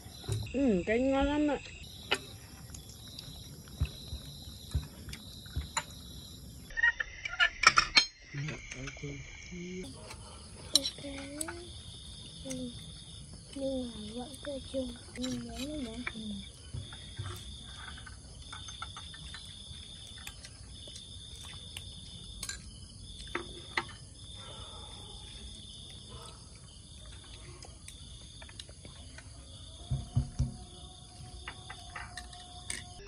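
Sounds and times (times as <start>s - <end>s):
crickets trilling: 0.0s - 33.0s
insect song: 0.0s - 33.0s.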